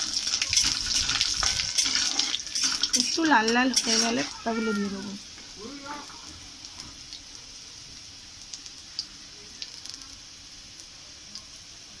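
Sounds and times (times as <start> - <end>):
oil spattering crackles: 0.0 - 7.4, 8.4 - 11.5
spices sizzling in hot oil: 0.0 - 12.0.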